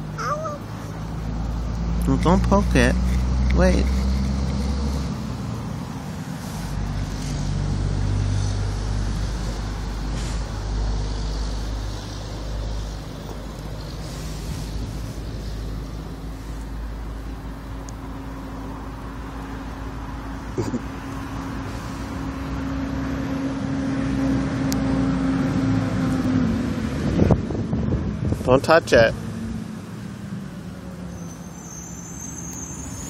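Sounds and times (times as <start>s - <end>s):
low engine drone: 0.0s - 31.6s.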